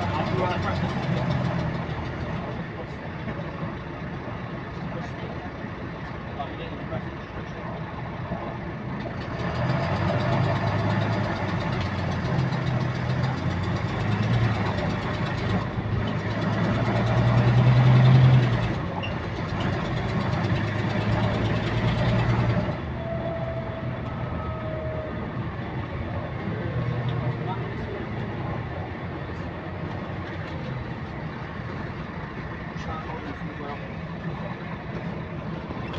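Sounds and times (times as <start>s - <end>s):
bus engine accelerating: 0.0s - 35.9s.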